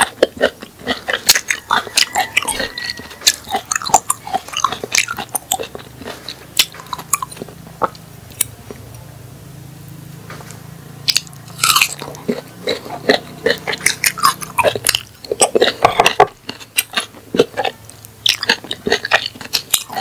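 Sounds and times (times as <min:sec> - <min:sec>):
crunchy chewing: 0:00.0 - 0:09.0, 0:10.3 - 0:20.0
faint steady hum: 0:00.0 - 0:20.0.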